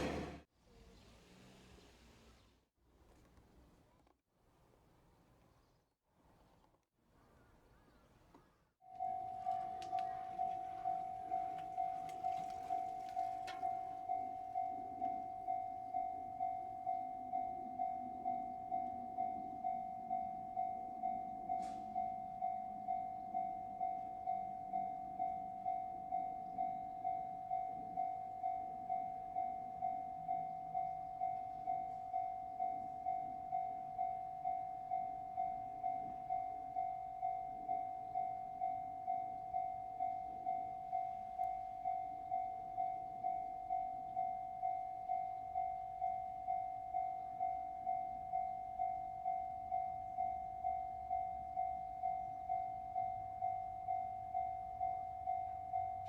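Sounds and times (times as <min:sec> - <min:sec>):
level-crossing warning bell ringing: 0:08.9 - 0:56.0.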